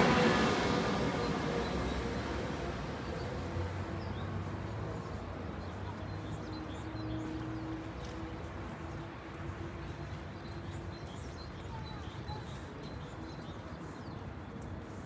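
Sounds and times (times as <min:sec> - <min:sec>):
low hum of traffic: 0:00.0 - 0:15.0.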